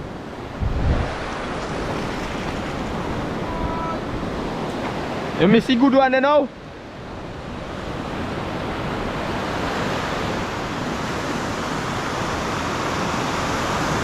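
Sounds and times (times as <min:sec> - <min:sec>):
sea surf rushing: 0:00.0 - 0:14.0.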